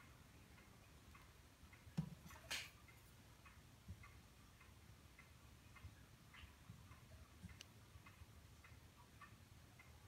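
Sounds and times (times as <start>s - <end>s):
faint ticks: 0.0s - 10.0s.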